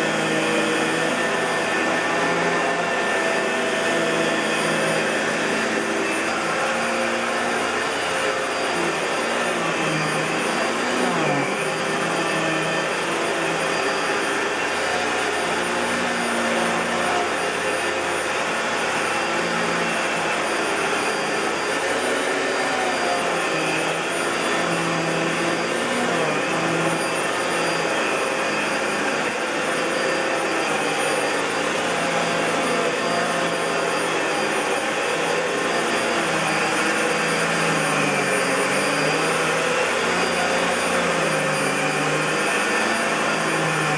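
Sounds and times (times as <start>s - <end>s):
vacuum cleaner humming: 0.0s - 43.9s.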